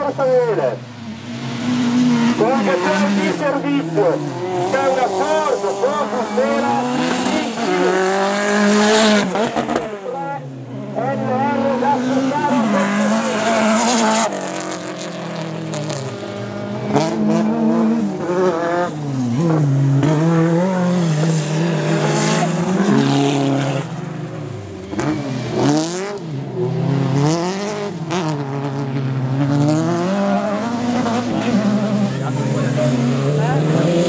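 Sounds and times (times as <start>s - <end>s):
cars passing close by: 0.0s - 34.0s
race car engines revving: 0.0s - 34.0s.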